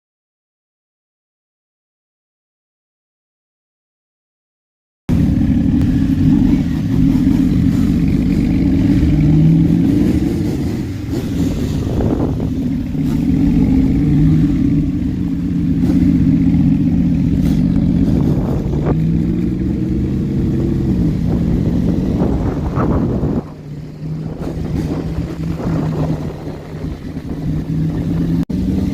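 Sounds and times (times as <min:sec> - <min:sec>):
vehicle engine revving: 0:05.1 - 0:28.9.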